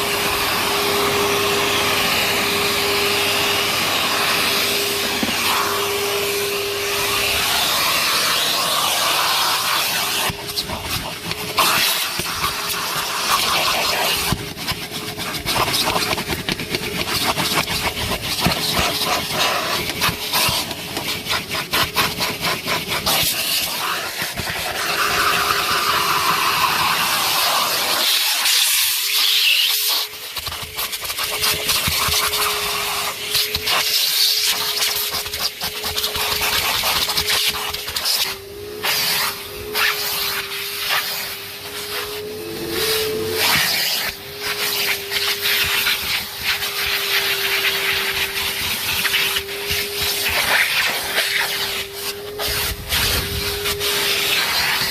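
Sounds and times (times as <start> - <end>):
vacuum cleaner running: 0.0 - 54.9
vacuum nozzle crackling and rattling: 2.0 - 54.9.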